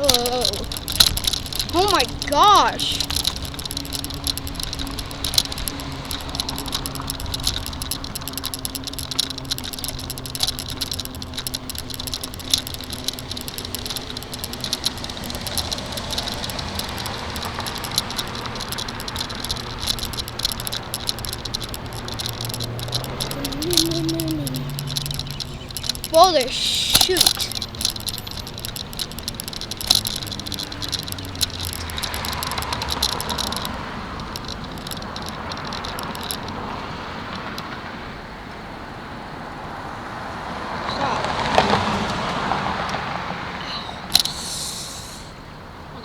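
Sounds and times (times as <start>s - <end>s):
bike rattling and clattering: 0.0s - 38.1s, 40.3s - 43.5s, 44.1s - 44.5s.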